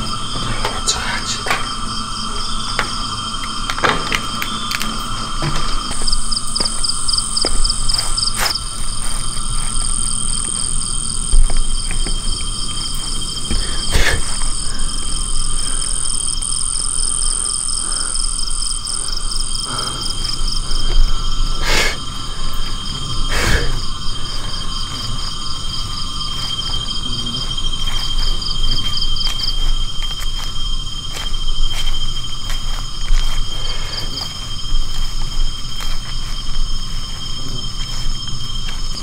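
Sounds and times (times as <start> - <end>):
insects trilling: 0.0 - 39.0.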